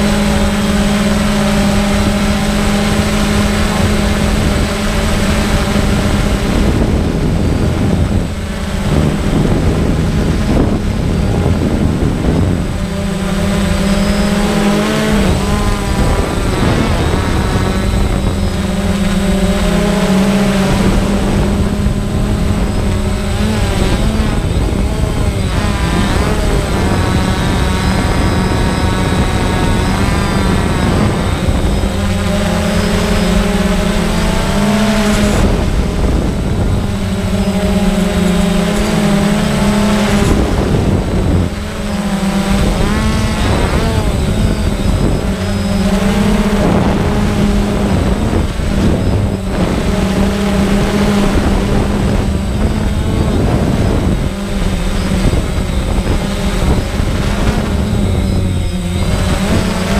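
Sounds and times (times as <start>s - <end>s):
drone motors and propellers whining: 0.0s - 59.9s.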